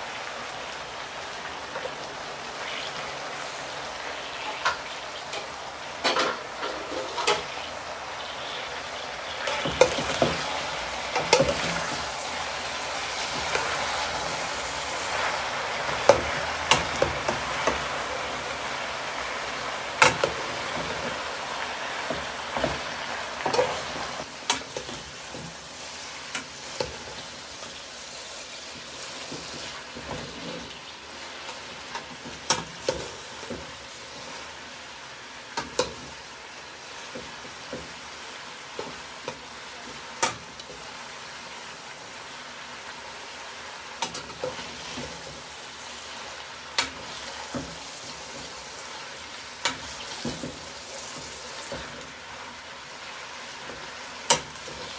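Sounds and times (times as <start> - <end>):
vegetables sizzling in a frying pan: 0.0 - 54.9.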